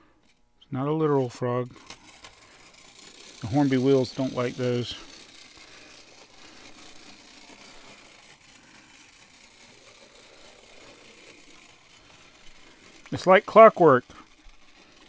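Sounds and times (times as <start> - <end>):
clockwork toy train whirring: 1.0 - 15.0.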